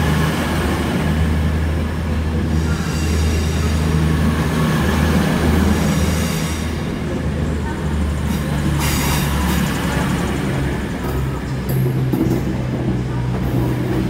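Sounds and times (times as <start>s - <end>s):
train engines droning: 0.0s - 14.0s.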